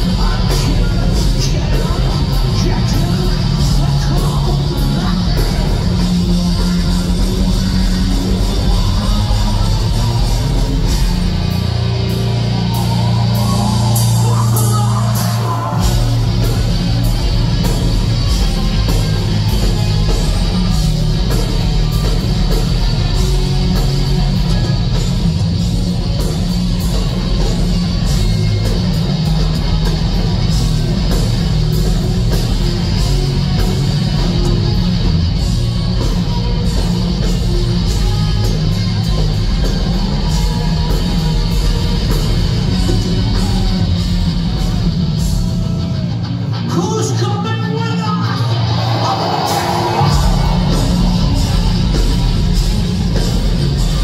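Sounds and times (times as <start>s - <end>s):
fast drum beat: 0.0s - 46.0s, 48.8s - 54.0s
hard rock band playing live: 0.0s - 54.0s.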